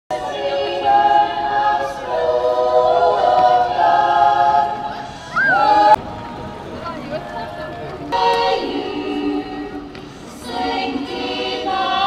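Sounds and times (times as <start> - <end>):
choir singing held chords: 0.1 - 7.0, 8.0 - 12.0.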